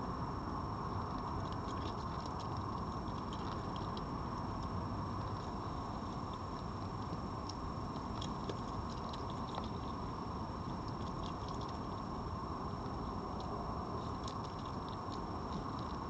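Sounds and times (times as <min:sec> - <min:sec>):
background hiss and hum: 0:00.0 - 0:16.0
faint high whine: 0:00.0 - 0:16.0
fox chewing and crunching: 0:00.9 - 0:16.0.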